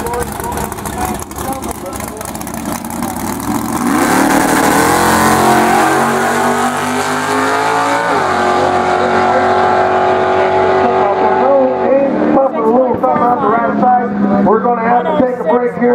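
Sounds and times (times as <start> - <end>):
drag car engine revving: 0.0 - 15.8.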